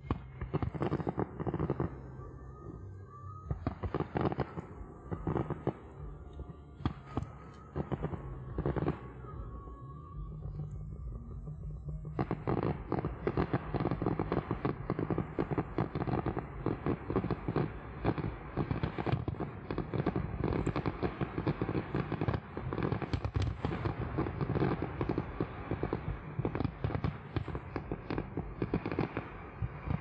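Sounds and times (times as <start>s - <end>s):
fireworks cracks and bangs: 0.0s - 30.0s.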